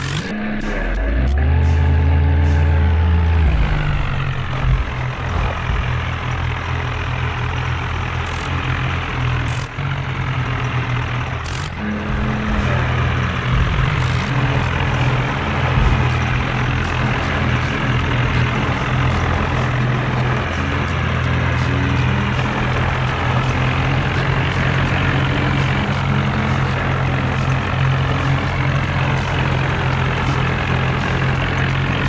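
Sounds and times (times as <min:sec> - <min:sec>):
diesel tractor engines running hard: 0:00.0 - 0:32.0.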